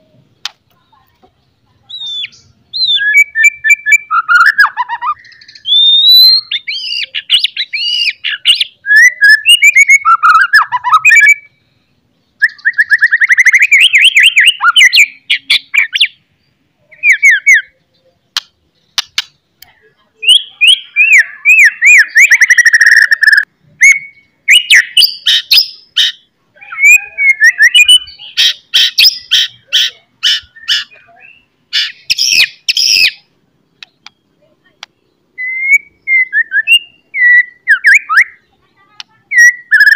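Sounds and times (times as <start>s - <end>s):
songbird singing trills and whistles: 0.7s - 39.9s.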